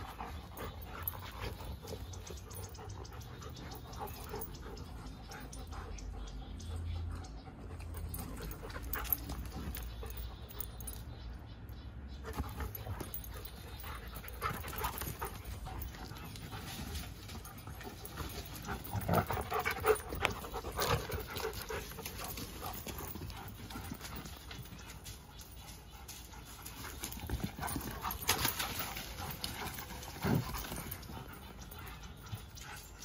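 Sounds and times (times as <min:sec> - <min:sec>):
dog panting: 0:00.0 - 0:10.9, 0:12.4 - 0:33.0.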